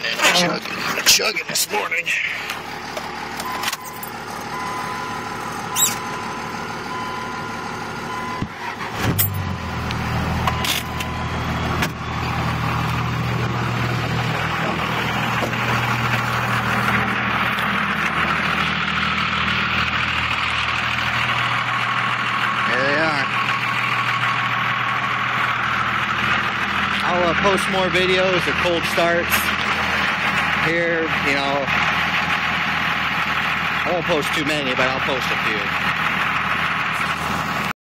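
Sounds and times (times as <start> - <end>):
diesel engine idling: 0.0 - 37.7.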